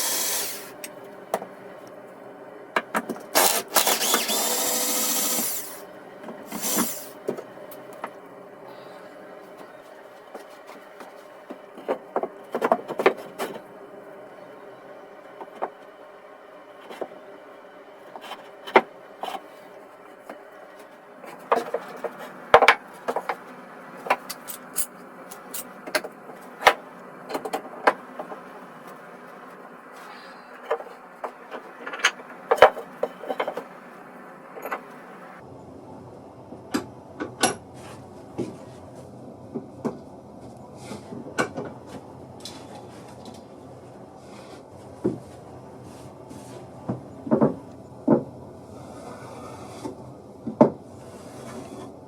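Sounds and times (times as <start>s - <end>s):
steady background hum: 0.0s - 52.0s.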